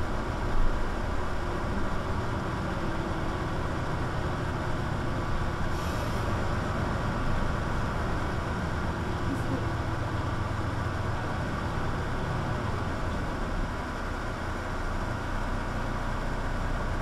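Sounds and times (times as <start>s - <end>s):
bus diesel engine humming: 0.0s - 17.0s.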